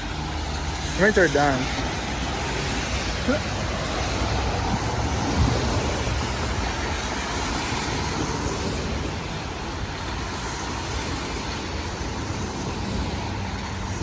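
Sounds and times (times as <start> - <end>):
road traffic rumble and hiss: 0.0 - 14.0.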